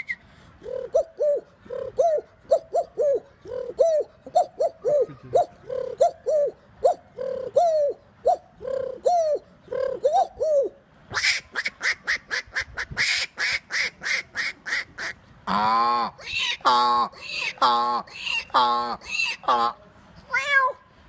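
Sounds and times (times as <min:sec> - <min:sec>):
man imitating bird calls: 0:00.0 - 0:13.0, 0:15.5 - 0:19.8.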